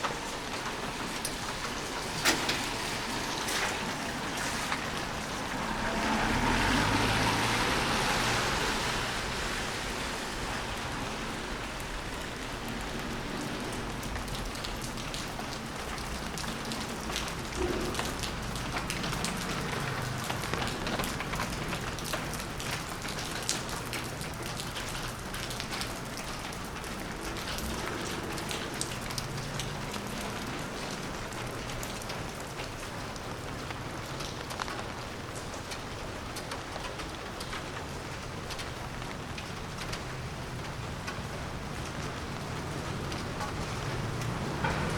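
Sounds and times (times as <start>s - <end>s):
rain drops pattering: 0.0s - 44.9s.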